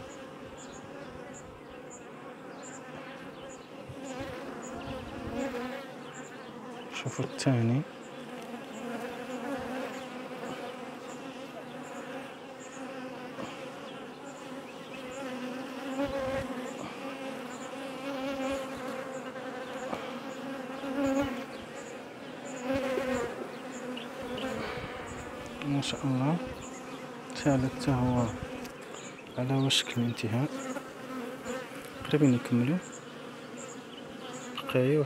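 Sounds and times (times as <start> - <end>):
bees humming: 0.0 - 35.0.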